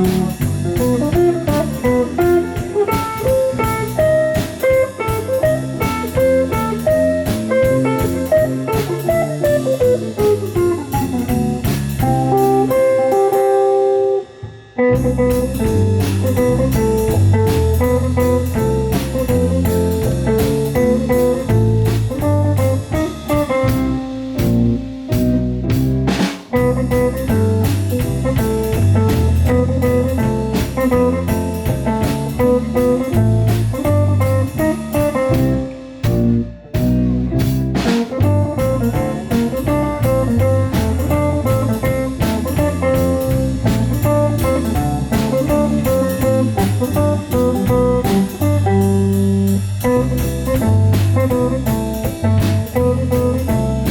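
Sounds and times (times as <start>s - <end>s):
lead guitar: 0.0s - 53.9s
live blues-jazz band playing: 0.0s - 53.9s.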